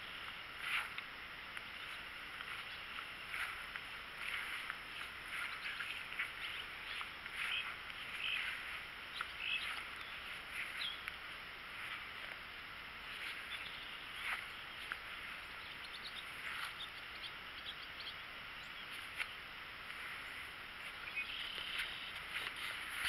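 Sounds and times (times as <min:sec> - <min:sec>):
birds chirping: 0:00.0 - 0:23.0
outdoor background hiss: 0:00.0 - 0:23.0.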